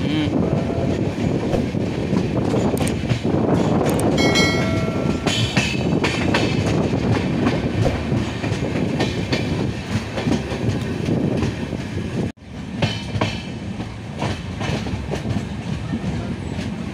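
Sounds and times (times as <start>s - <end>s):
train wheels clicking over rail joints: 1.1s - 16.9s.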